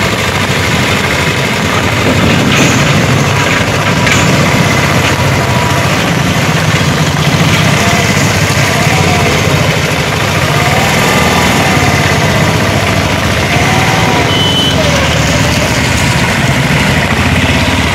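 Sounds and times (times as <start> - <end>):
motorcycle passing: 0.0 - 17.9
small engine rumbling: 0.0 - 17.9.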